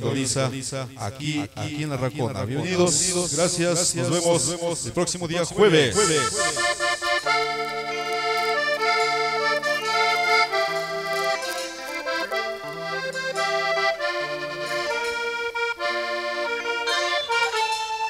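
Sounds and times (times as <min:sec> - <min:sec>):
accordion music: 0:02.6 - 0:04.9, 0:05.6 - 0:18.0.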